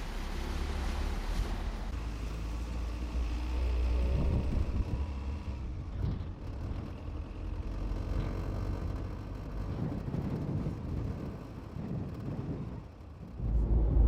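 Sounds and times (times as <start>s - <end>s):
vehicle driving on dirt road: 0.0s - 14.0s.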